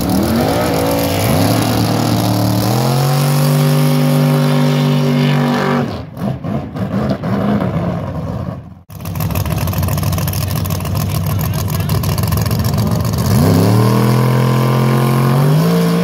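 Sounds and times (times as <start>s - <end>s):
drag race car engine revving: 0.0s - 16.0s.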